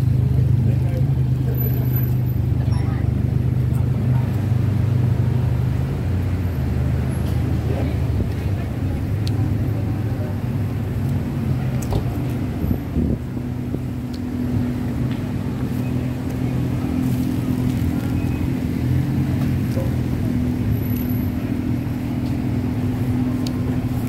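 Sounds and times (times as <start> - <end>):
traffic engine hum: 0.0 - 24.0.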